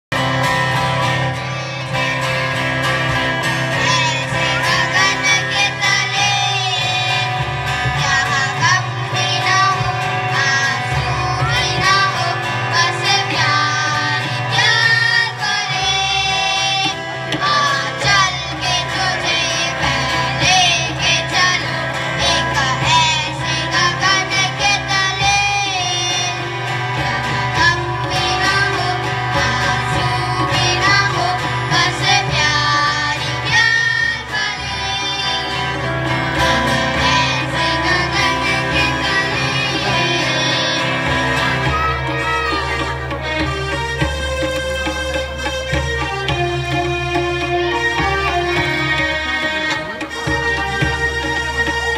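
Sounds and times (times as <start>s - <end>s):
acoustic guitar: 0.1s - 48.5s
tabla: 0.1s - 51.9s
children singing: 0.8s - 43.5s.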